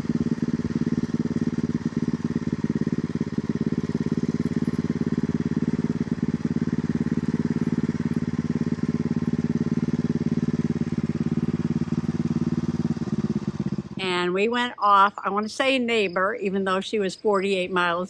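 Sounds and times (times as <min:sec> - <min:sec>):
engine running steadily: 0:00.0 - 0:16.2.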